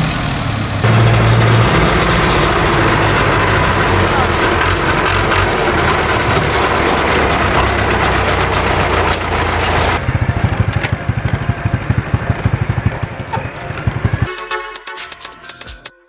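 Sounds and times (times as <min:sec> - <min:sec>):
diesel tractor engine chugging: 0:00.0 - 0:15.9.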